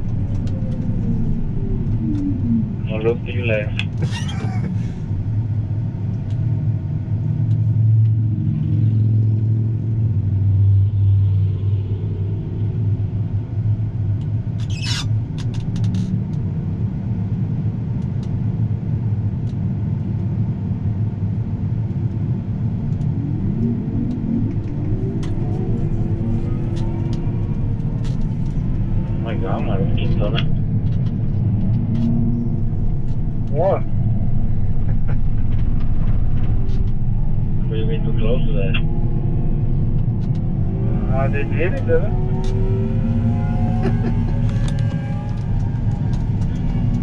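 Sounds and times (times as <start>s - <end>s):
rising whine: 0.0s - 18.2s, 19.4s - 47.0s
engine and road noise drone: 0.0s - 47.0s.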